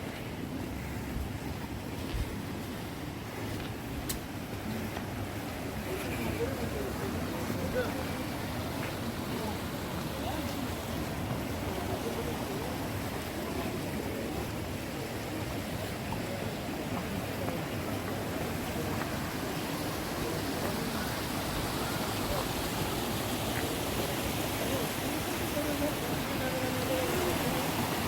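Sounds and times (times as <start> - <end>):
faint voices: 0.0 - 28.0
water rushing: 0.0 - 28.0.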